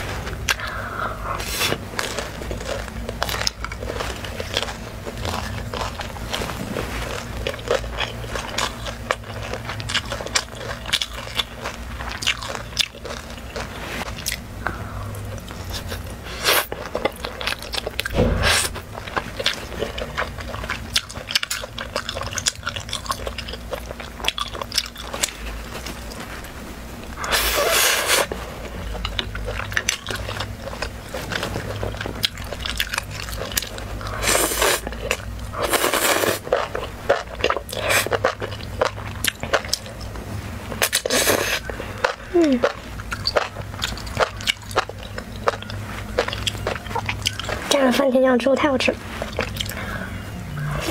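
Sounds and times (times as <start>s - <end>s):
person chewing meat: 0.3s - 47.8s, 49.1s - 50.9s.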